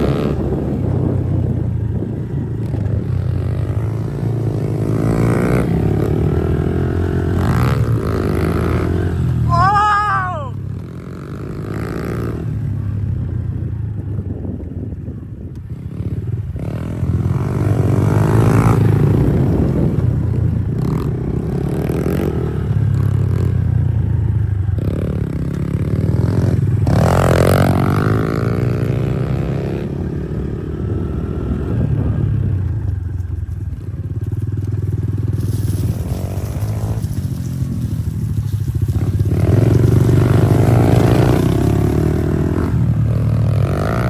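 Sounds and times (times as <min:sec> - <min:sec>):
motorbike engine revving: 0:00.0 - 0:14.6, 0:15.6 - 0:44.0.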